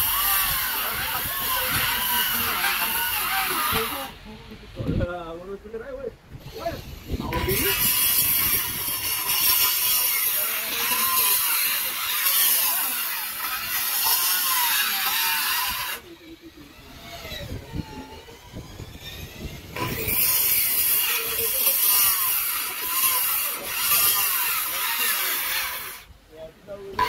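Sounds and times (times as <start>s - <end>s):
power tool cutting wood: 0.0s - 4.2s, 6.4s - 26.1s.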